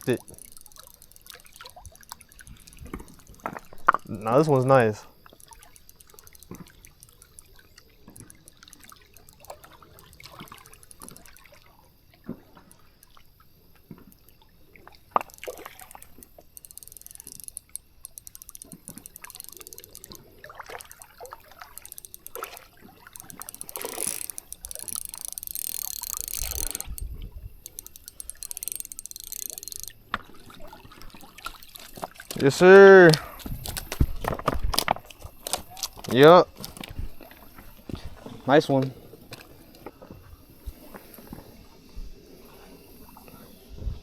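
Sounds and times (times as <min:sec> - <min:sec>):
light clicks: 0:00.0 - 0:11.5, 0:15.2 - 0:40.0
water splashing and dripping: 0:00.0 - 0:39.9.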